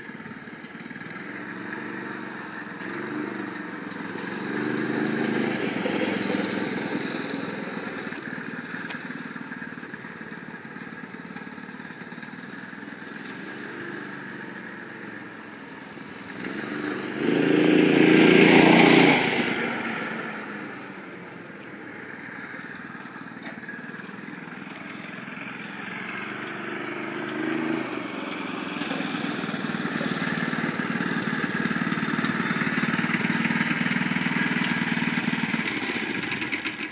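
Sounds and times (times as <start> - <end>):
scooter engine running: 0.0 - 36.9.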